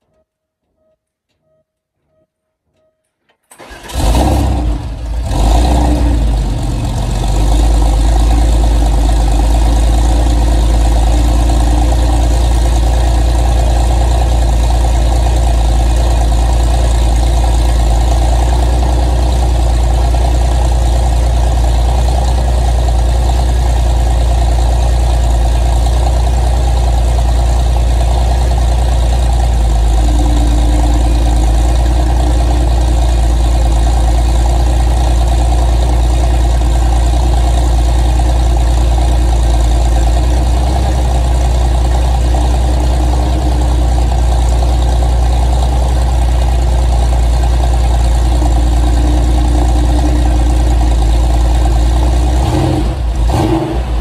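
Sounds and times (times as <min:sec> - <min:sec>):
car engine cold-starting and idling: 0:03.4 - 0:54.0.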